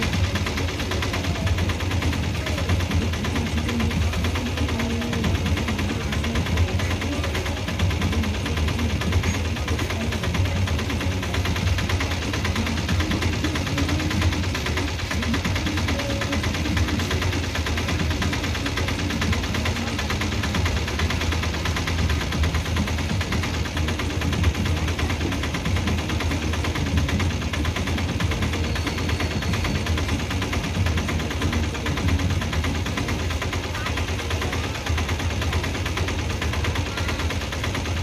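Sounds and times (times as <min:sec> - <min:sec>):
freight wagon wheels rumbling: 0:00.0 - 0:38.0
wheels clattering over rails: 0:00.0 - 0:38.0.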